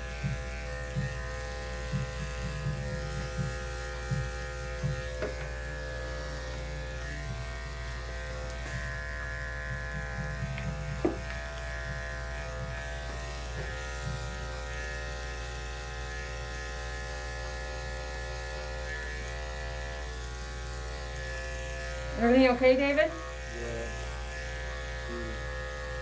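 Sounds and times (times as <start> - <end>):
electric clippers buzzing: 0.0 - 26.0.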